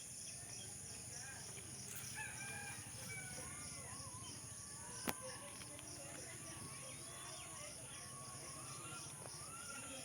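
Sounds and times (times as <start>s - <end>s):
cricket chirps: 0.0s - 10.0s.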